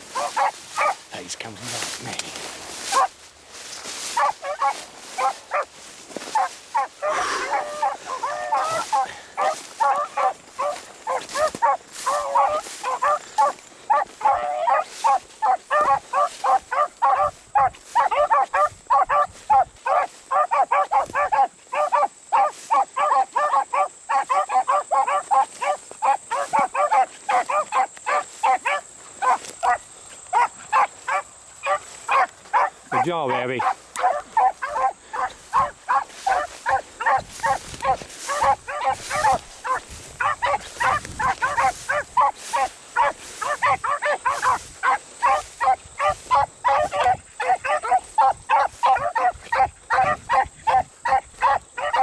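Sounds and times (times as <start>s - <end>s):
beagles baying: 0.0s - 1.3s, 2.3s - 52.0s.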